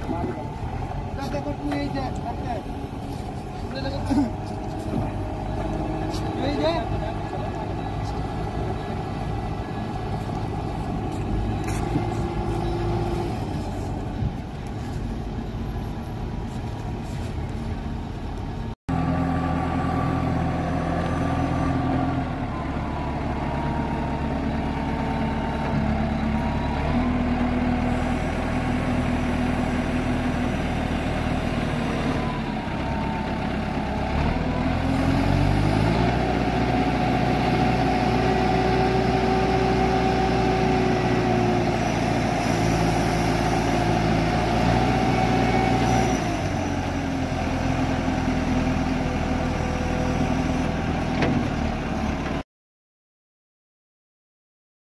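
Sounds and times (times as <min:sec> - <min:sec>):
diesel engine revving: 0:00.0 - 0:14.6, 0:18.9 - 0:52.4.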